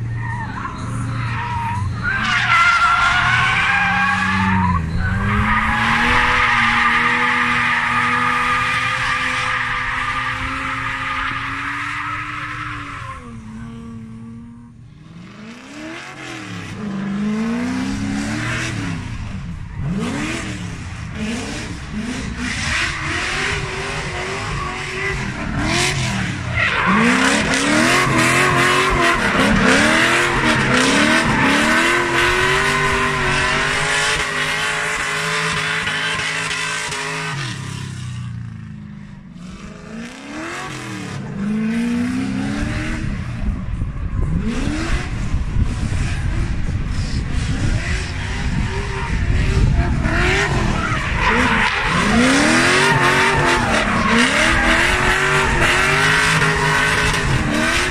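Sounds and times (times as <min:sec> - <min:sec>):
car engines revving hard: 0:00.0 - 0:57.9.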